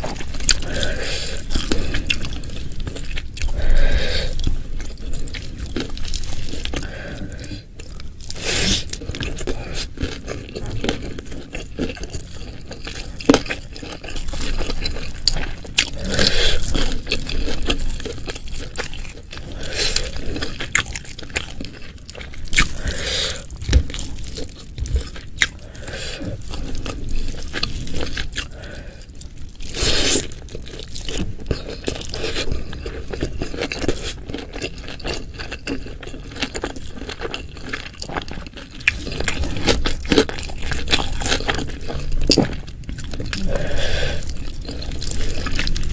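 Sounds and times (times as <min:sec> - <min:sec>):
wet chewing and crunching: 0:00.0 - 0:45.9.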